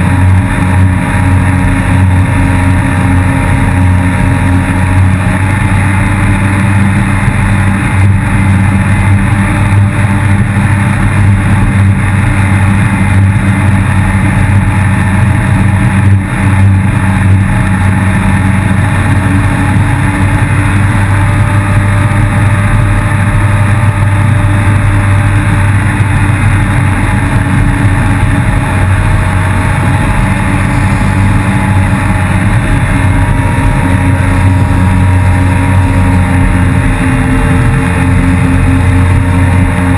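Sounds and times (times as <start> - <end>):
jet ski engine running hard: 0.0 - 39.9
water rushing under hull: 0.0 - 39.9.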